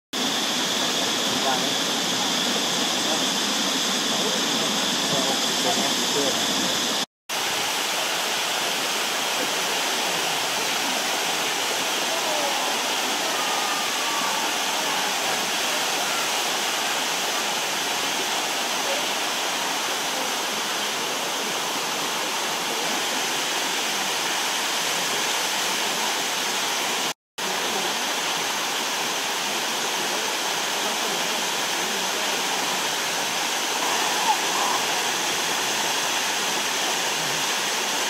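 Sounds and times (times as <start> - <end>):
waterfall rushing over rocks: 0.2 - 38.0.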